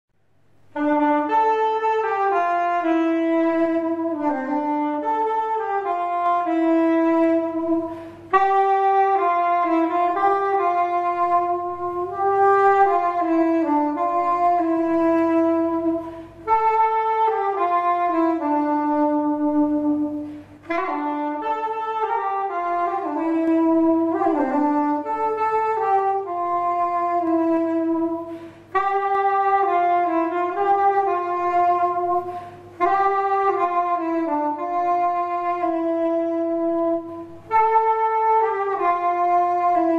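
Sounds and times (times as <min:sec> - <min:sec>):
single-reed woodwind melody: 0:00.4 - 0:39.9.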